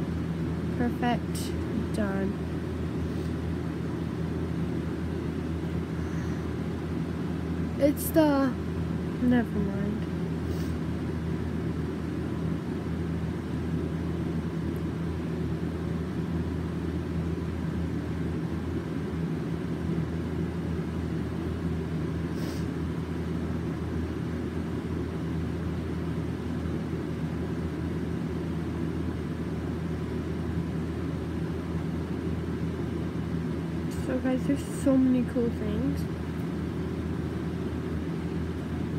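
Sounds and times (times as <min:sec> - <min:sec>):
low room hum and rumble: 0:00.0 - 0:38.9.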